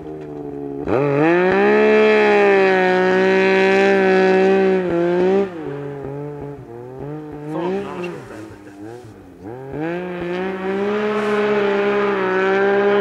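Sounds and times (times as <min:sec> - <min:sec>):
snowmobile engine revving: 0:00.9 - 0:13.0.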